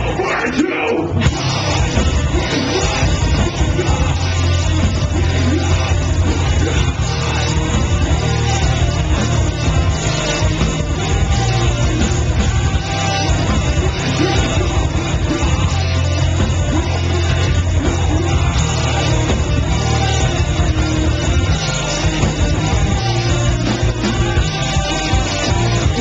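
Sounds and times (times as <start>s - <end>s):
distorted electric guitars: 0.0s - 26.0s
drums: 0.0s - 26.0s
heavy metal band playing live: 0.0s - 26.0s
vocals: 0.0s - 26.0s.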